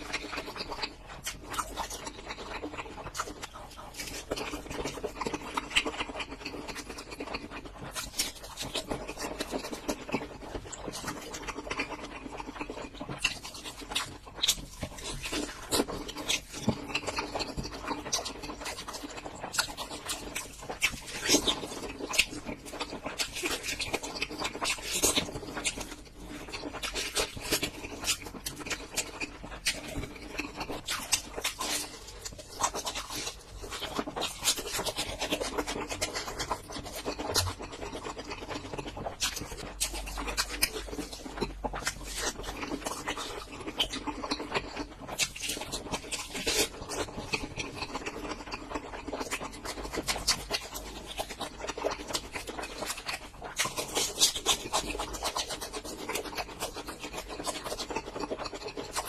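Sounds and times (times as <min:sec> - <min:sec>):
close chewing of food: 0:00.0 - 0:59.0.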